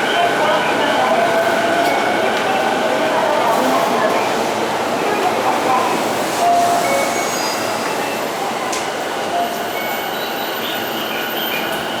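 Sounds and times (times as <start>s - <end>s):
electric train noise: 0.0s - 12.0s.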